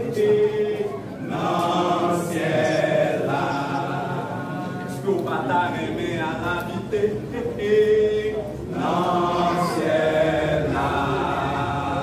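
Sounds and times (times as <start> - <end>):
male choir singing: 0.0 - 12.0.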